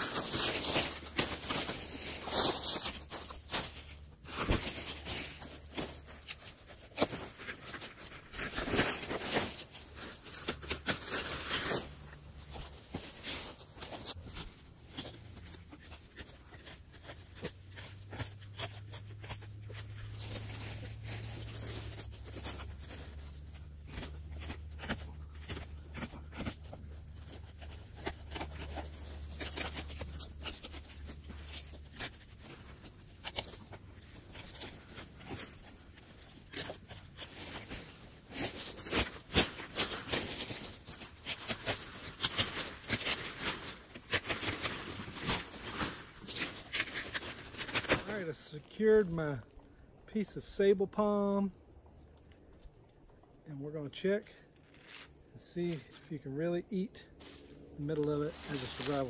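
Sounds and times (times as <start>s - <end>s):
dry fronds crackling and tearing: 0.0s - 53.4s, 54.4s - 56.2s, 57.1s - 59.0s.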